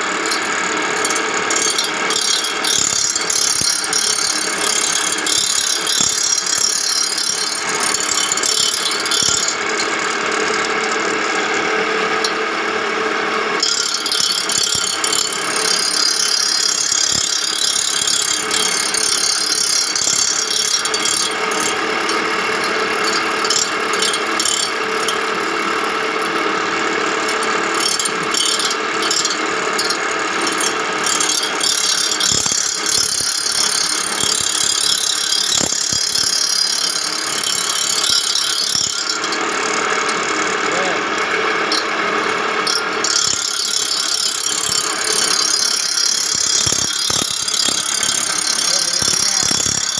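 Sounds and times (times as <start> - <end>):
grinding wheel on reel blades: 0.0 - 49.9.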